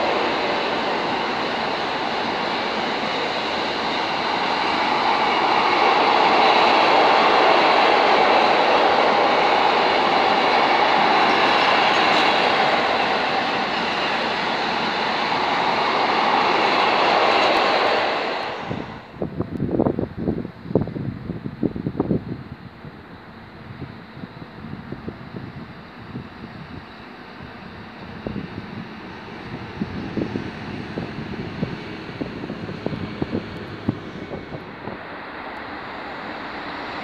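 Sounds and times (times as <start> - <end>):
freight train wheels on rail: 0.0 - 37.0.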